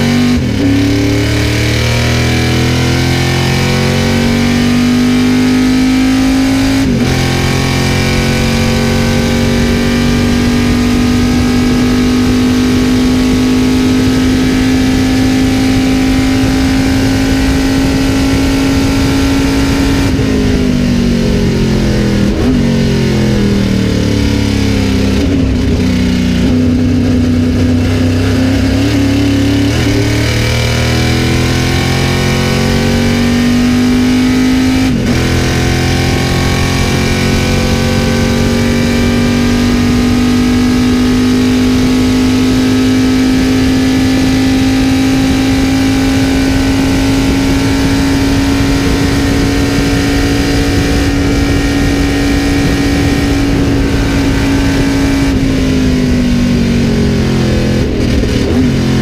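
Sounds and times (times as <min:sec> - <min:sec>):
race car engine at full throttle: 0:00.0 - 0:59.0.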